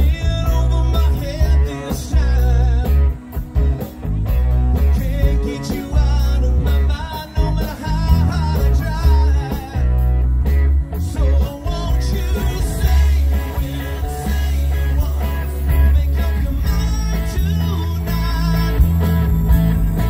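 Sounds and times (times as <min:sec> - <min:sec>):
man singing: 0:00.0 - 0:03.6, 0:04.7 - 0:10.2, 0:10.9 - 0:20.0
electric guitar: 0:00.0 - 0:20.0
heavy bass: 0:00.0 - 0:20.0
steady drum beat: 0:00.0 - 0:20.0.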